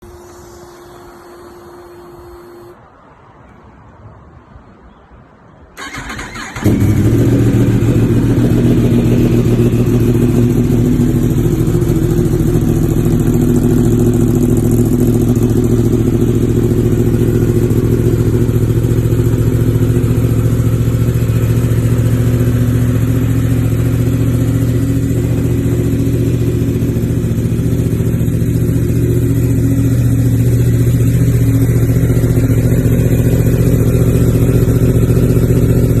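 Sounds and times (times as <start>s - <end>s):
motorcycle engine idling: 5.8s - 36.0s.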